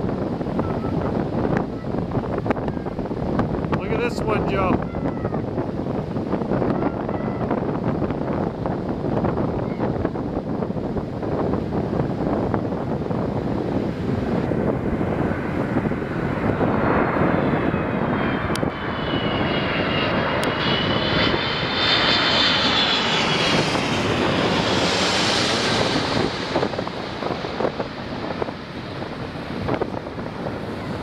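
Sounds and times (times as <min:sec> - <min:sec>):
jet airliner roar and whine: 0:00.0 - 0:31.0.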